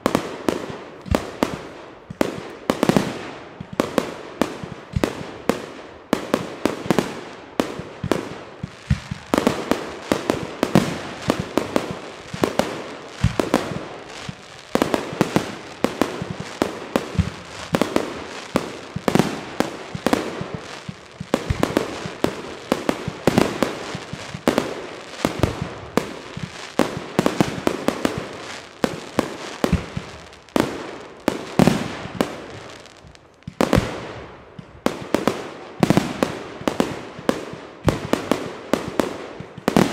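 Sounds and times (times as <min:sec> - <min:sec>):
fireworks bursting with sharp bangs: 0:00.0 - 0:39.9.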